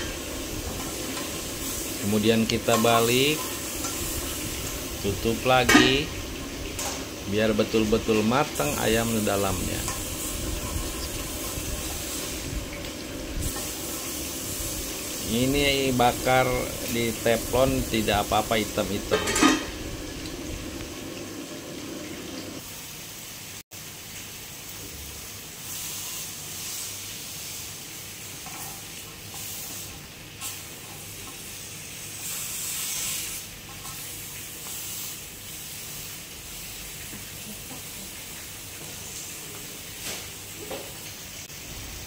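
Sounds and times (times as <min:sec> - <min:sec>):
chicken sizzling in a frying pan: 0:00.0 - 0:42.0.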